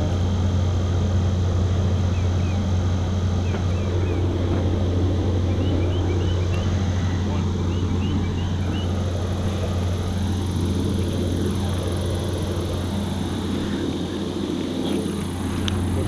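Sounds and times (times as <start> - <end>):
engine droning steadily: 0.0 - 16.0.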